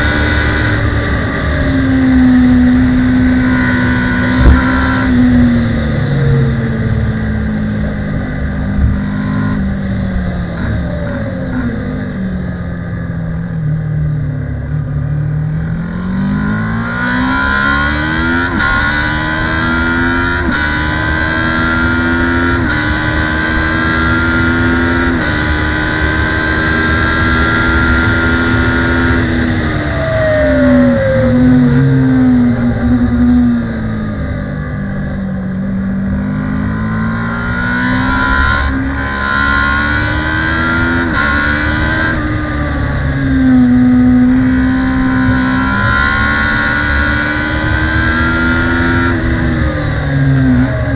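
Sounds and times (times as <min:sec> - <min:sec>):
motorcycle race engine: 0:00.0 - 0:50.9.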